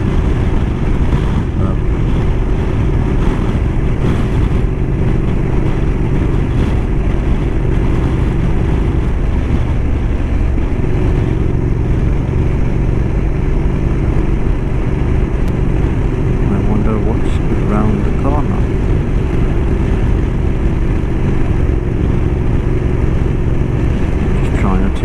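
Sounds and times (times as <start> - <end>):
motorcycle engine running: 0.0 - 25.0
wind noise: 0.0 - 25.0.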